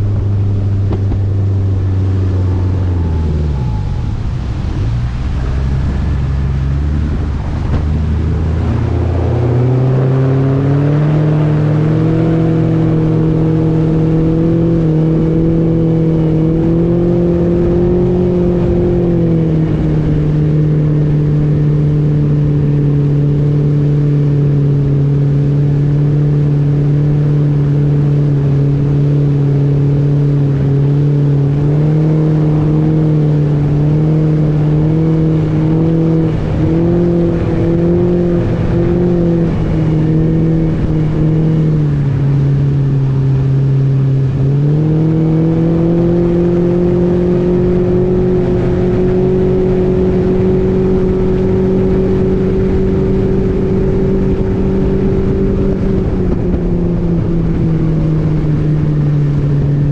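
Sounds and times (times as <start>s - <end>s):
outboard motor accelerating: 0.0s - 59.9s.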